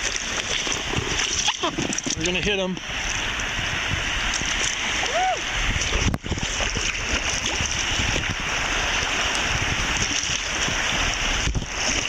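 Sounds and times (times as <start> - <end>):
wind buffeting microphone: 0.0 - 12.0
river rapids rushing: 0.2 - 12.0.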